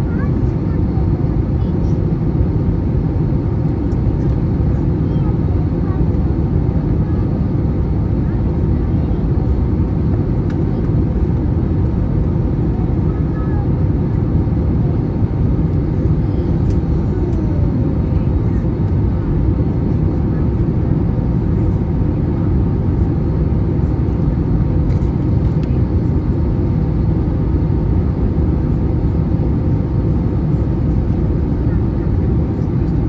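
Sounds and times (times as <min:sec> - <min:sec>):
airliner cabin noise: 0:00.0 - 0:33.0.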